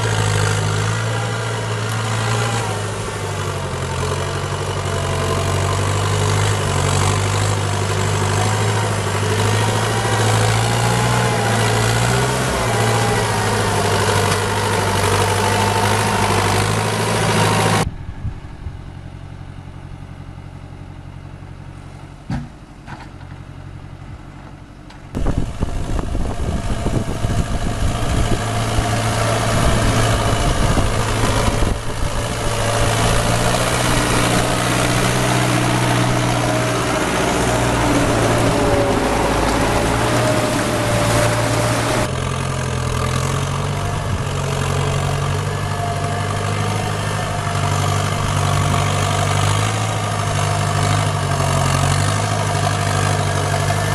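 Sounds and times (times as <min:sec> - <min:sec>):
tyres churning in mud: 0:00.0 - 0:17.9, 0:25.2 - 0:53.9
tractor engine running hard: 0:00.0 - 0:53.9.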